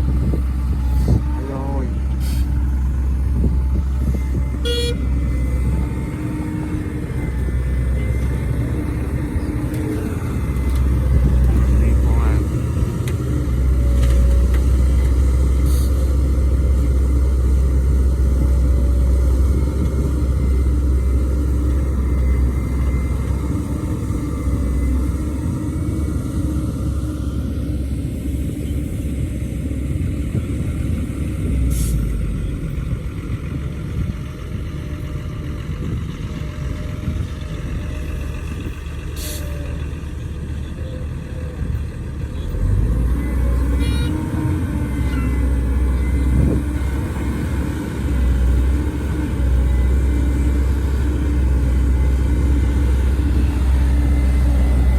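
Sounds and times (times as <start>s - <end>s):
diesel machinery rumbling: 0.0s - 54.9s.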